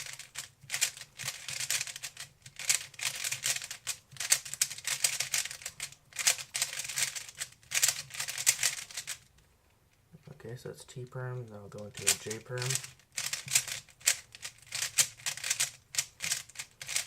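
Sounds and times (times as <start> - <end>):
puzzle cube clicking: 0.0 - 9.3, 11.8 - 17.0.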